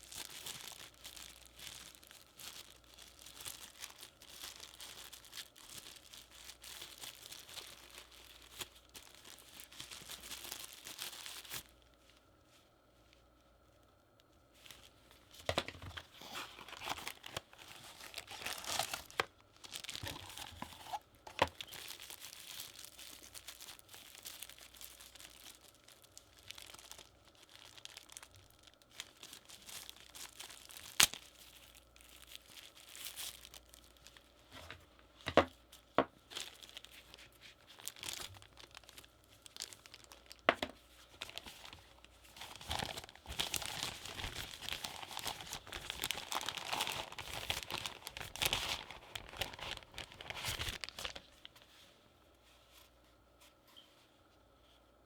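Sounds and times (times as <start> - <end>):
plastic and paper crinkling: 0.0 - 51.9.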